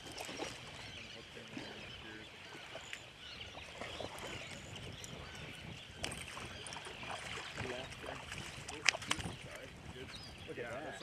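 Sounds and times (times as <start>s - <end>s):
birds chirping: 0.0s - 11.0s
small waves lapping: 0.0s - 11.0s.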